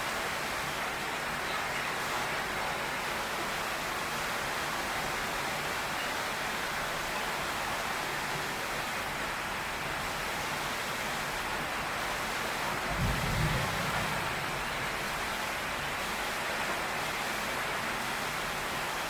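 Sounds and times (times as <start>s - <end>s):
heavy rain on a tin roof: 0.0s - 19.0s.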